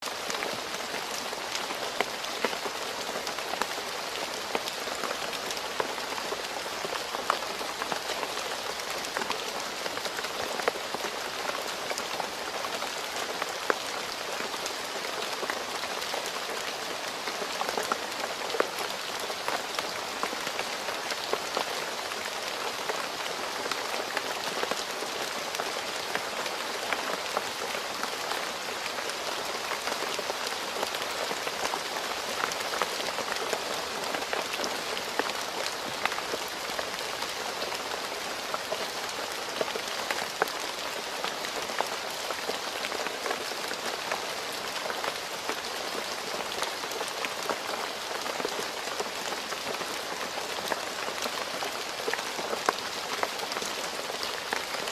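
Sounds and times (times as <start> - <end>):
rain falling on a road: 0.0 - 54.9.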